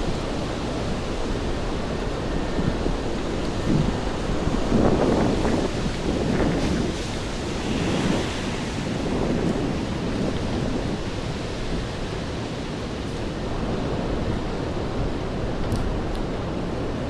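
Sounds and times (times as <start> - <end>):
rain hissing on street: 0.0 - 14.9.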